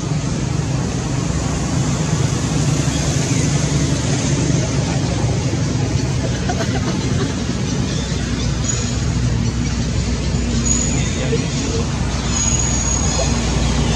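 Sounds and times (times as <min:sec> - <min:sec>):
low engine hum: 0:00.0 - 0:13.9.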